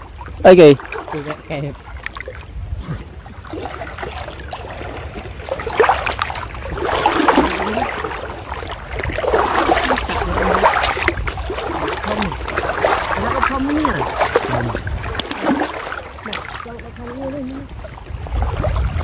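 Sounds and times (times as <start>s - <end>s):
floodwater sloshing and splashing: 0.0s - 19.0s.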